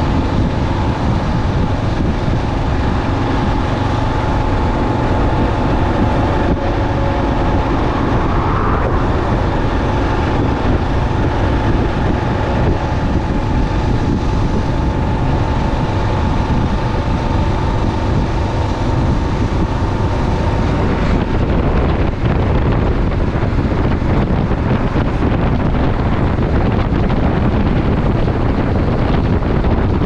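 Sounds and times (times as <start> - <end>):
motorcycle engine running: 0.0 - 30.0
wind noise on microphone: 0.0 - 30.0.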